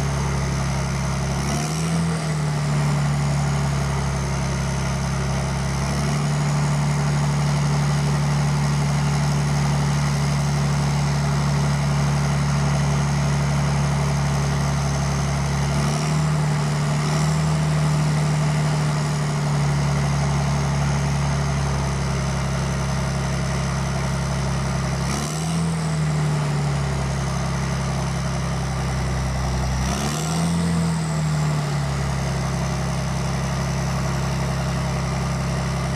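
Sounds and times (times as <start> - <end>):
diesel engine idling: 0.0 - 35.9.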